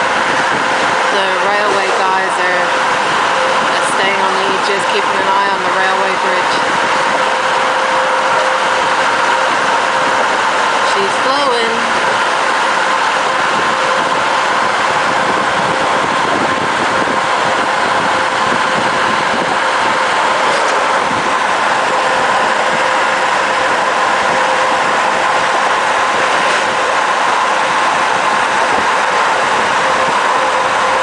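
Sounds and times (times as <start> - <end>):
car tyre and engine noise: 0.0 - 31.0.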